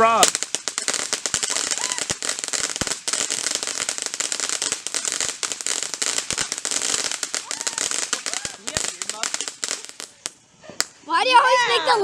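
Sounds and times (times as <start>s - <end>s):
ground fireworks crackling: 0.0s - 12.0s.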